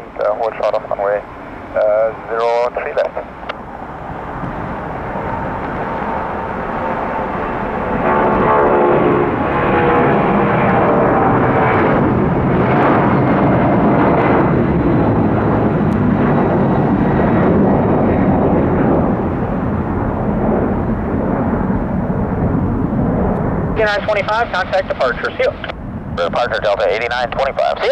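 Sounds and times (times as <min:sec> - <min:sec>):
jet engine whine: 0:00.0 - 0:27.9
jet engines roaring: 0:00.0 - 0:27.9.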